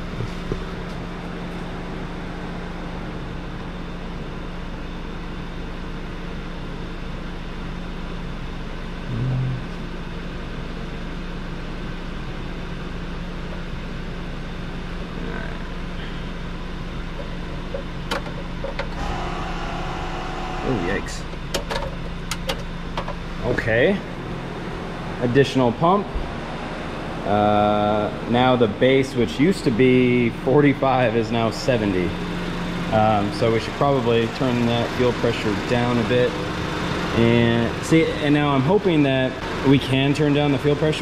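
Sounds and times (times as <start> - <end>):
fuel pumps humming: 0.0 - 41.0.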